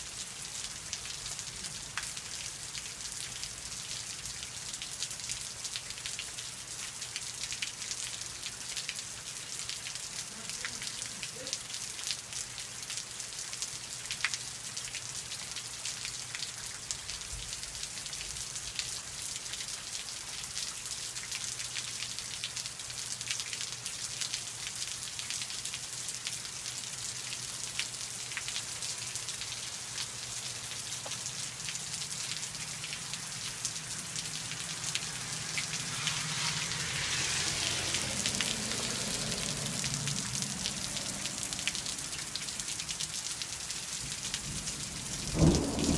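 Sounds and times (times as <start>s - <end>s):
steady rain: 0.0s - 45.9s
raindrops ticking: 0.2s - 45.9s.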